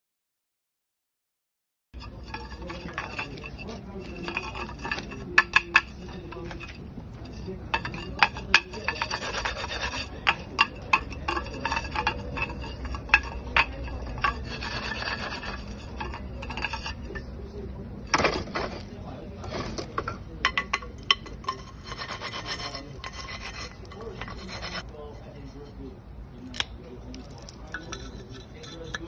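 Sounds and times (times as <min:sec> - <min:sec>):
charcoal briquettes scraping: 0:02.0 - 0:25.8, 0:26.5 - 0:29.0.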